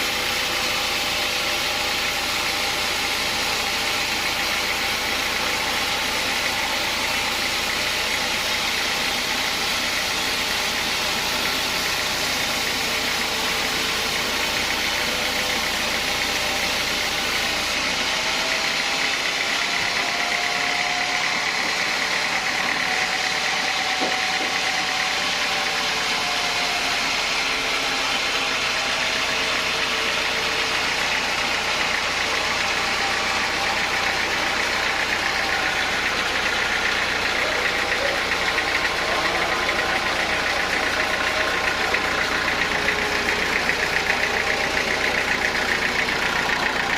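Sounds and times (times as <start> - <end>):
saw cutting log: 0.0 - 46.9.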